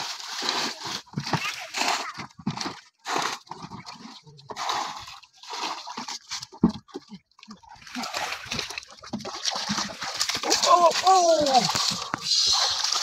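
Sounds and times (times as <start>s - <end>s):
water poured from a bucket: 0.0s - 13.0s.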